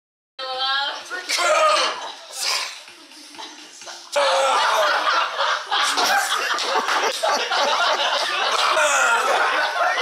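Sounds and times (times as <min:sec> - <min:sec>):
people laughing and shouting: 0:00.7 - 0:10.0.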